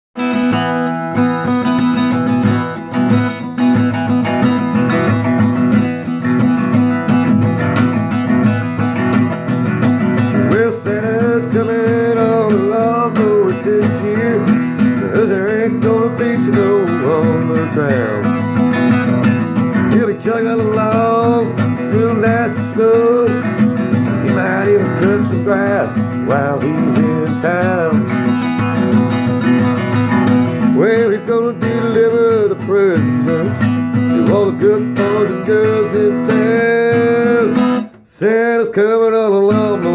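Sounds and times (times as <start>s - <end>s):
acoustic guitar strumming: 0.2s - 39.9s.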